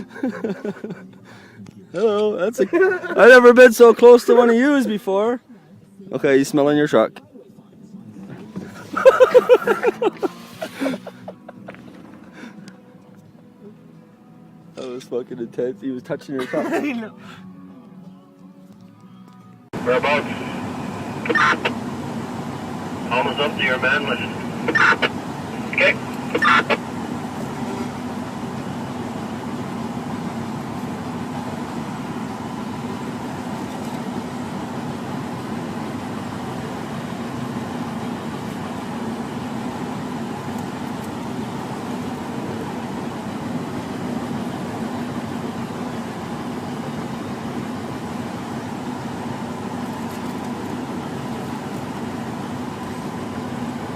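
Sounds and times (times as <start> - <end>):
vehicle engine humming: 0.0 - 53.9.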